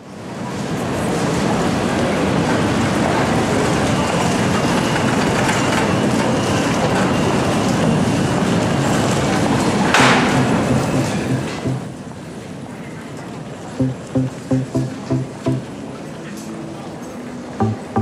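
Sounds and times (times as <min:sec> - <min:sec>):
train rumbling on tracks: 0:00.0 - 0:16.2.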